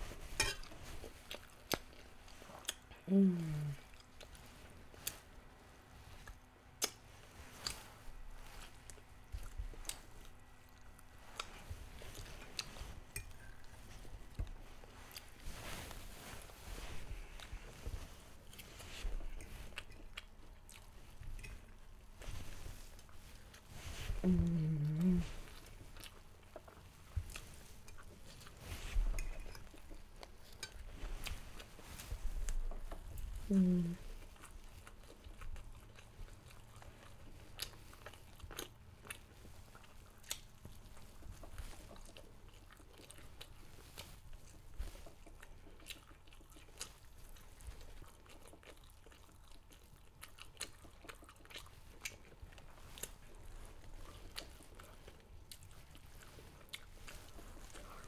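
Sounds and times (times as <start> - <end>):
chewing and mouth sounds: 0.1 - 58.0.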